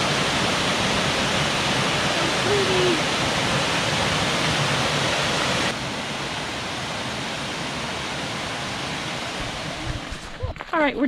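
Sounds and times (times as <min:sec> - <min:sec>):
waterfall rushing over rocks: 0:00.0 - 0:10.4.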